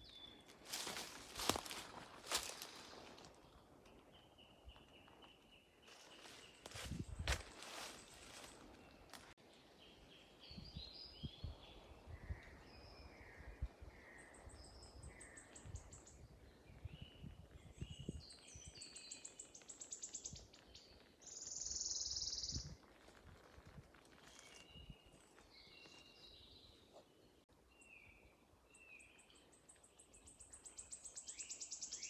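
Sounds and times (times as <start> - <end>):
songbirds singing: 0.0 - 22.9, 24.2 - 32.0.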